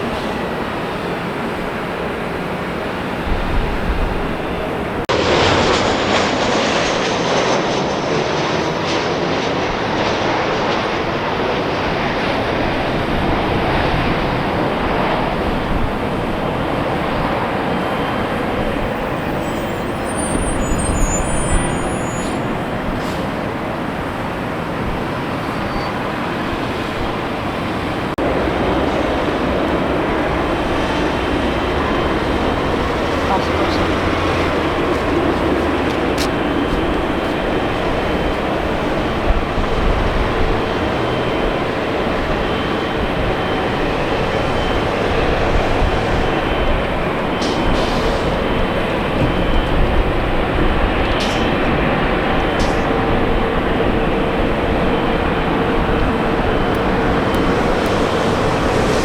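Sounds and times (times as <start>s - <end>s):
jet engine rush: 0.0s - 59.0s.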